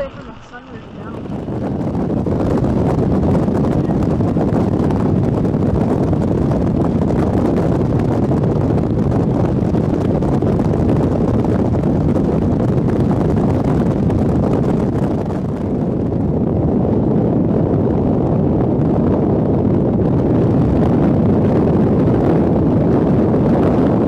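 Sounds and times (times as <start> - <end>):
wind rushing across microphone: 0.0 - 24.0.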